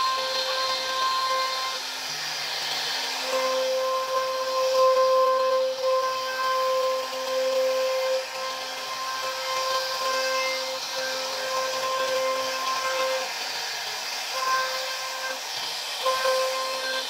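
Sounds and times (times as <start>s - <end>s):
hiss of bit cutting wood: 0.0s - 17.0s
router spindle high whine: 0.0s - 17.0s.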